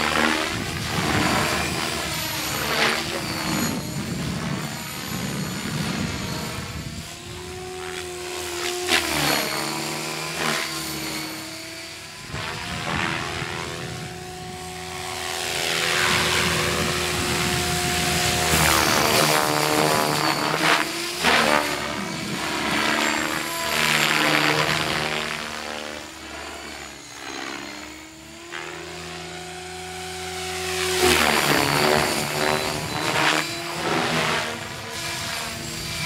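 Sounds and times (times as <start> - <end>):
electric motor whine: 0.0 - 36.0
rotor blades whooshing: 0.0 - 36.0.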